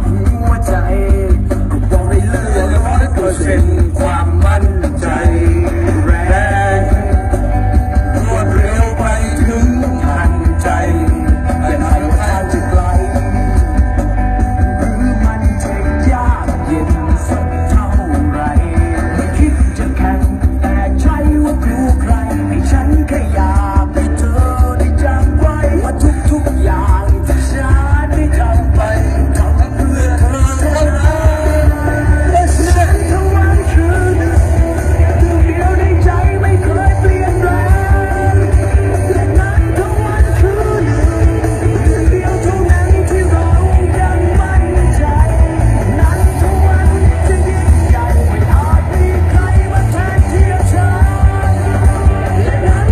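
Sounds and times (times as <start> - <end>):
heavy bass: 0.0 - 52.9
music with singing over loudspeakers: 0.0 - 52.9.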